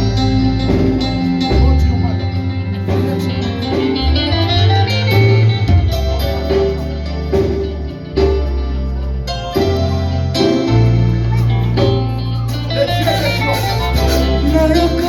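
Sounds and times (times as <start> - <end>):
guitar music: 0.0 - 15.0
sustained bass notes: 0.0 - 15.0.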